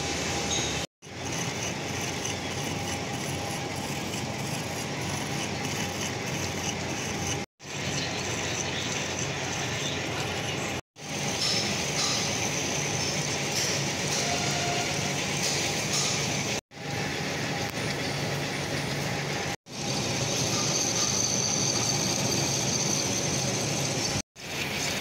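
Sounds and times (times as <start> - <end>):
lathe gears whirring and clattering: 0.4 - 25.0.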